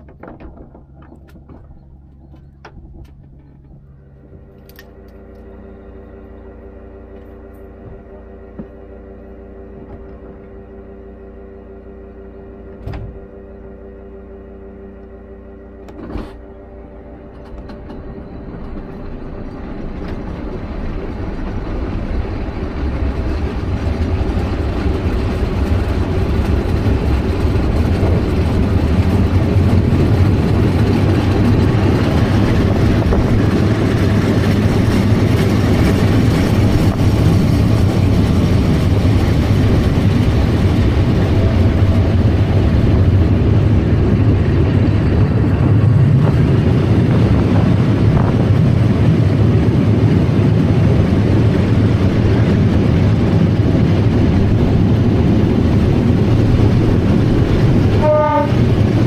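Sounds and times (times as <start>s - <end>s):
electric train running on board: 0.0s - 59.0s.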